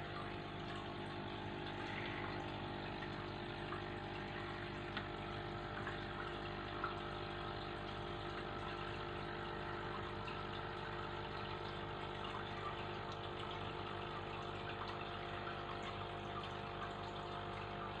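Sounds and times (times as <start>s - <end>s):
aquarium filter pump humming: 0.0s - 18.0s.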